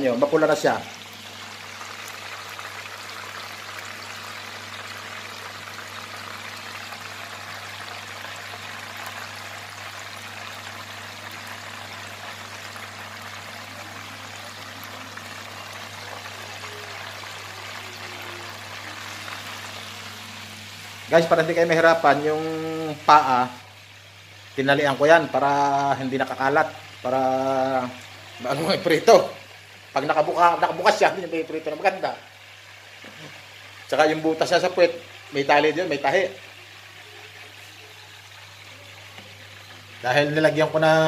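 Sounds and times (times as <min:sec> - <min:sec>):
chicken sizzling in oil: 0:00.0 - 0:41.0.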